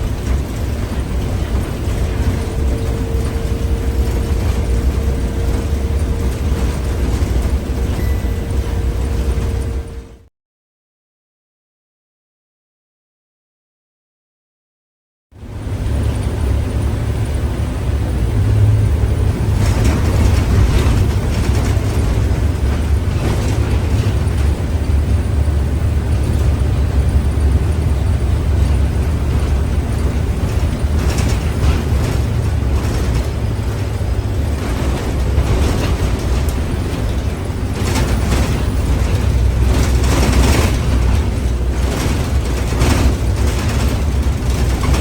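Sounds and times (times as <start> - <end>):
rattles and clunks: 0.0 - 10.2, 18.0 - 45.0
bus engine and road rumble: 0.0 - 10.3, 15.4 - 45.0.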